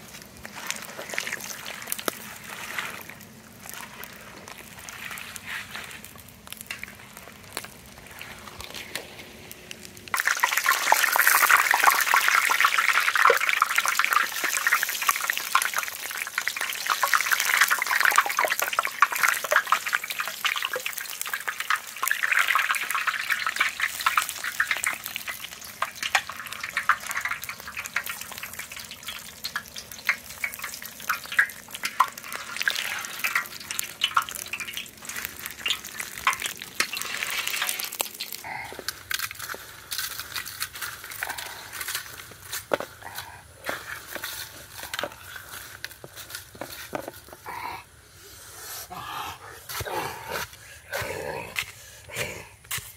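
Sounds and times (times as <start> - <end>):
eggs deep-frying in hot oil: 0.0 - 48.2.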